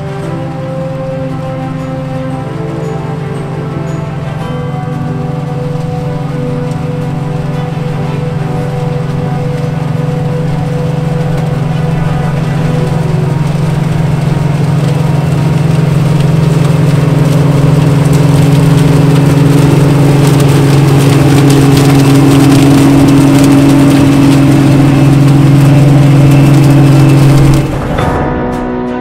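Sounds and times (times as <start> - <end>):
crackle of stalks crushed: 0.0 - 28.6
diesel engine drone: 0.0 - 29.0.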